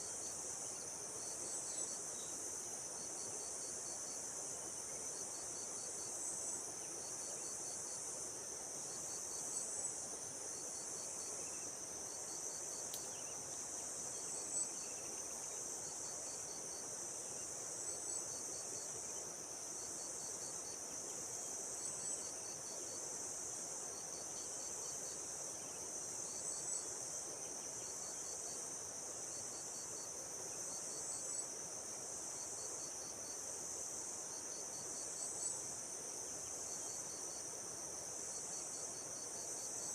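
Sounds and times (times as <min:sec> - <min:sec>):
bright insect chirp: 0:00.0 - 0:39.9
high-pitched insect chorus: 0:00.0 - 0:39.9.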